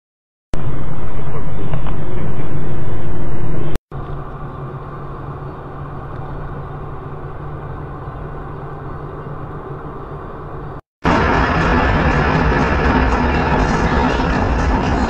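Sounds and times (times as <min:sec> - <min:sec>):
car engine and road drone: 0:00.5 - 0:15.0.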